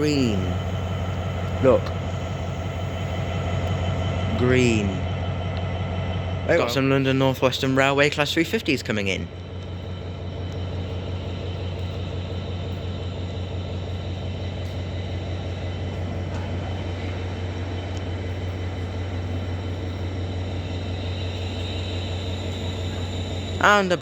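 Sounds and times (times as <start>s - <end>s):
diesel locomotive idling: 0.0s - 24.0s.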